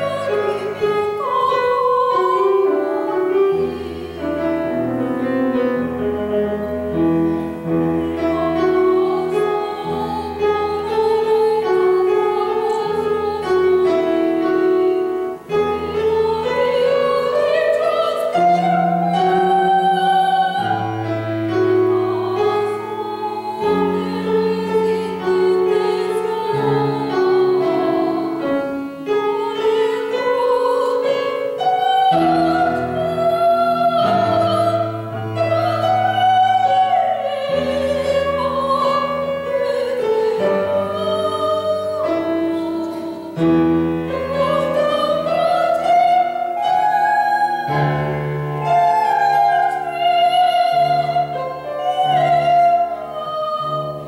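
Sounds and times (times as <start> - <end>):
soprano singing opera: 0.0 - 54.0.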